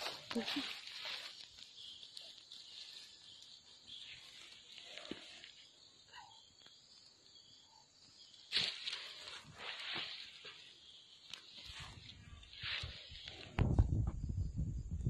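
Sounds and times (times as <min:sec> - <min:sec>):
rustling vines and soil: 0:00.0 - 0:07.0, 0:08.1 - 0:14.3.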